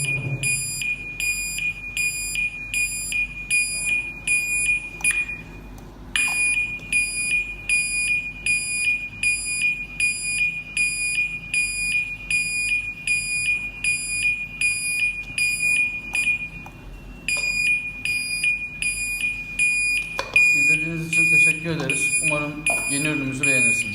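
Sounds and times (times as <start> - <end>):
high pulsing siren beeps: 0.0 - 5.6, 6.2 - 23.9.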